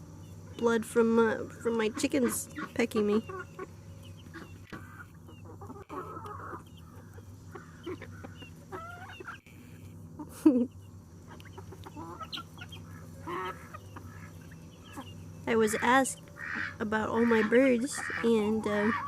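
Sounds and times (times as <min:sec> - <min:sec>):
chickens clucking: 0:00.1 - 0:19.0
chicken squawk: 0:01.8 - 0:10.3, 0:11.2 - 0:19.0.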